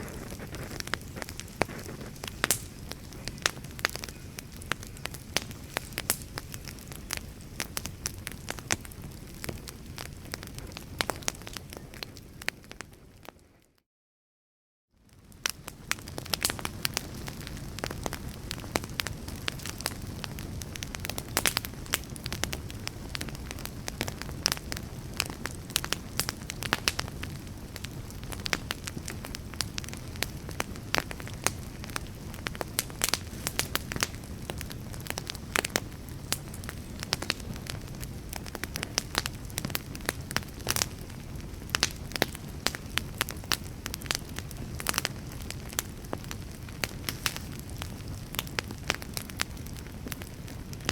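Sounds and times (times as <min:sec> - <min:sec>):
wood fire crackling and popping: 0:00.0 - 0:13.7, 0:15.1 - 0:50.9.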